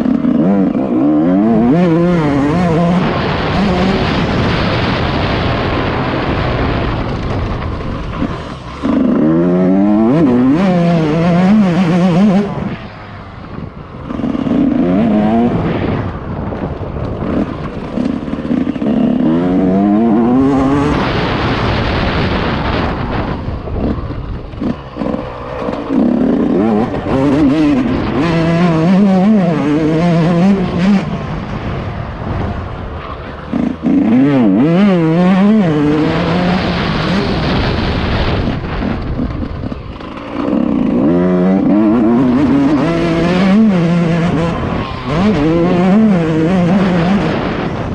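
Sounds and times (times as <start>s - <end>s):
motocross engine revving: 0.0s - 12.9s, 13.5s - 16.2s, 17.2s - 31.4s, 33.2s - 47.9s
rushing noise: 0.0s - 47.9s.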